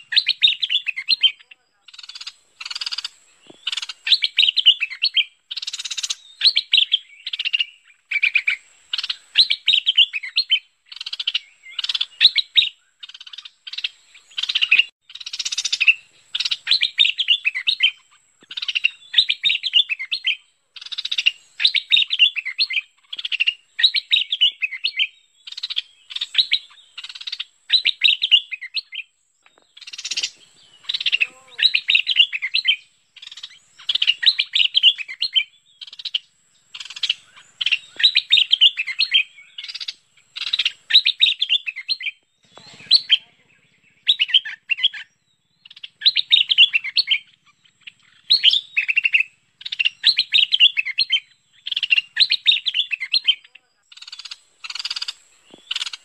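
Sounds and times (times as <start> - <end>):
bulbul chattering calls: 0.0 - 56.0.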